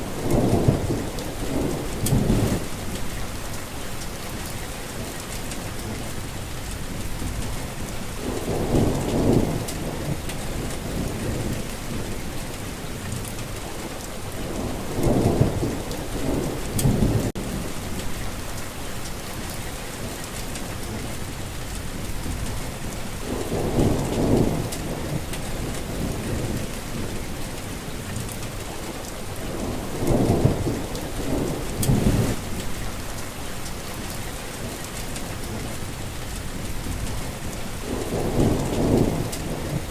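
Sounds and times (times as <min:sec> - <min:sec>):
rolling thunder: 0:00.0 - 0:03.6, 0:06.8 - 0:13.5, 0:14.2 - 0:18.6, 0:21.9 - 0:39.9
steady rain falling: 0:00.0 - 0:39.9.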